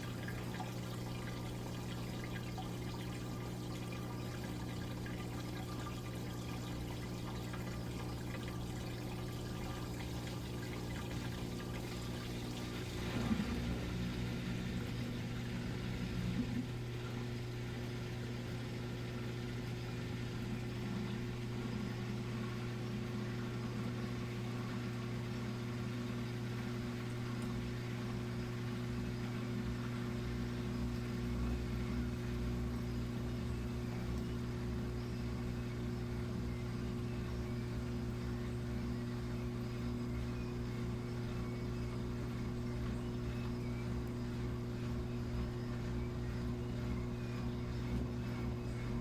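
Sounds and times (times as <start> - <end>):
washing machine humming: 0.0 - 49.0.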